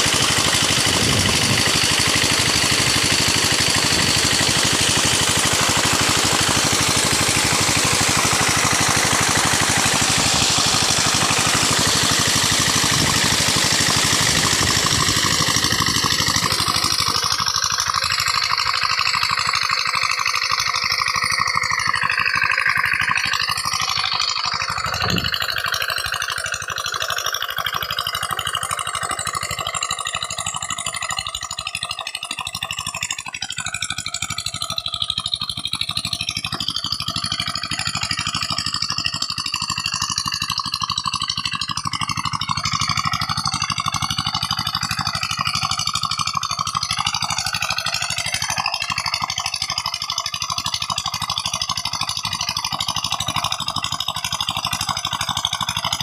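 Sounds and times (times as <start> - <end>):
diesel pump engine running: 0.0 - 56.0
water gushing from pipe: 0.0 - 56.0.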